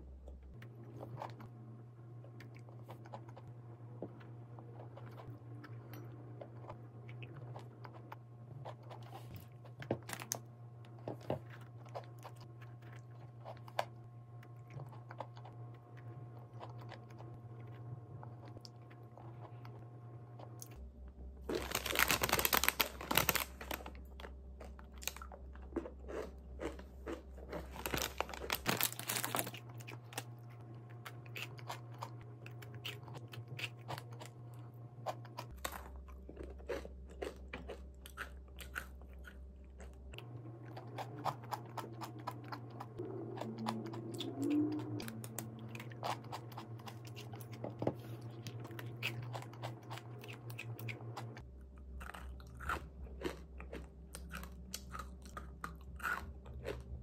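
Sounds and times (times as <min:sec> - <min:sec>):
person chewing crunchy cookie: 0:00.2 - 0:20.9, 0:21.5 - 0:57.0.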